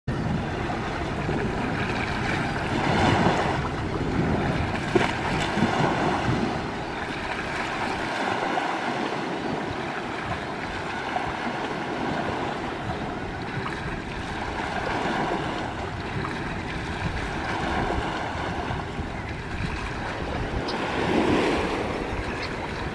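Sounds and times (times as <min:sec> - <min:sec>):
small waves: 0:00.1 - 0:22.9
wind on microphone: 0:00.1 - 0:22.9.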